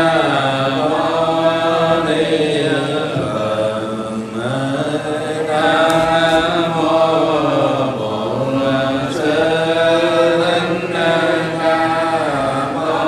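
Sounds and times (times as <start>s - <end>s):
monk chanting into a microphone: 0.0s - 13.0s.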